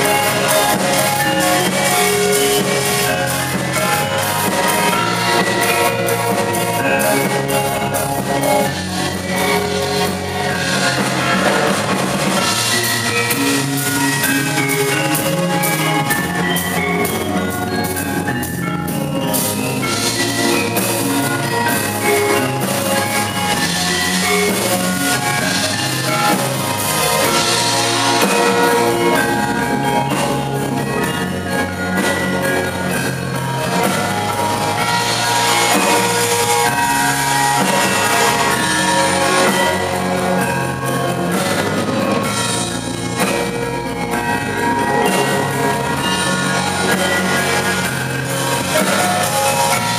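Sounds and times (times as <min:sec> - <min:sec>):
drum kit: 0:00.0 - 0:49.9
electric bass guitar: 0:00.0 - 0:49.9
keyboard: 0:00.0 - 0:49.9
metallophones and kettle gongs: 0:00.0 - 0:49.9.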